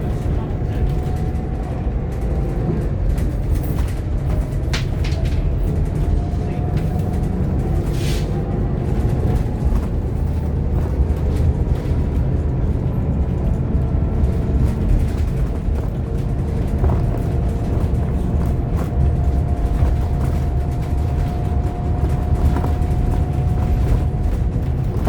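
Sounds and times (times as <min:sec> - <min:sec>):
bus diesel engine drone: 0:00.0 - 0:25.0
road rumble: 0:00.0 - 0:25.0.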